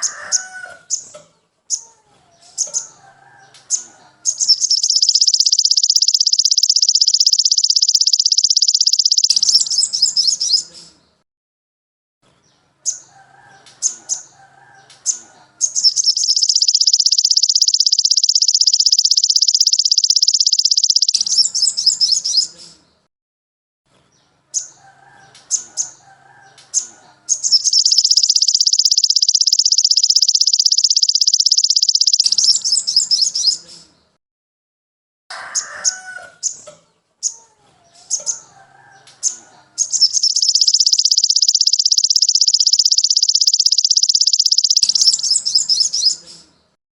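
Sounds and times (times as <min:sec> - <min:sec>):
songbird chirps and trill: 0:00.0 - 0:11.2, 0:12.3 - 0:23.0, 0:24.0 - 0:34.2, 0:35.3 - 0:46.8
faint lower bird calls: 0:01.7 - 0:11.0, 0:12.8 - 0:22.8, 0:24.6 - 0:34.0, 0:37.2 - 0:46.8.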